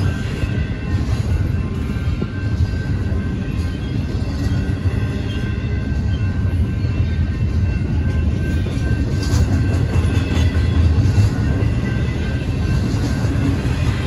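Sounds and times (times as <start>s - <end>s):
high ringing tones: 0.0s - 14.0s
train wheels rumbling on rail: 0.0s - 14.0s.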